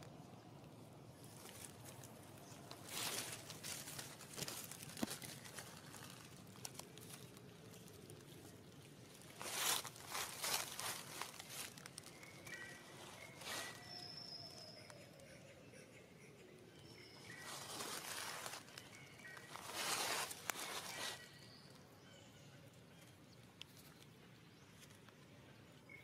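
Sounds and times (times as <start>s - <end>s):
soft rustling and crinkling: 0.0s - 15.3s, 17.0s - 21.8s, 22.8s - 25.4s.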